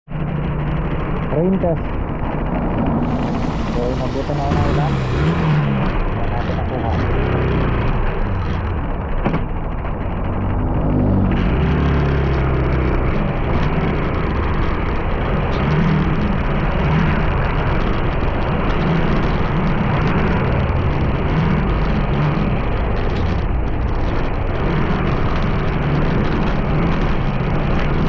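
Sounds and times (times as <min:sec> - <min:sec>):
vehicle engine and road noise: 0:00.1 - 0:28.0.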